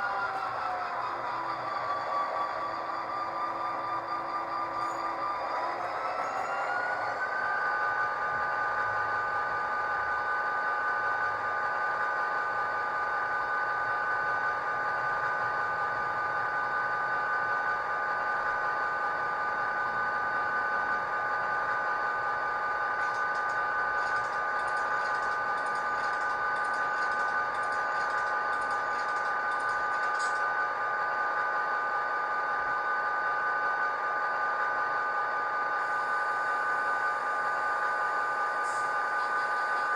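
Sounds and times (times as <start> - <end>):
model locomotive engine sound: 0.0 - 39.9.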